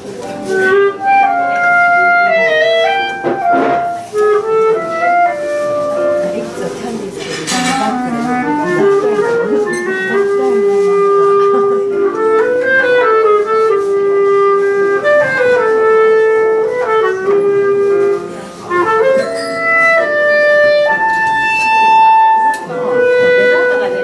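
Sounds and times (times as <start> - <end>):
clarinet playing slow melody: 0.1 - 6.8, 7.5 - 24.0.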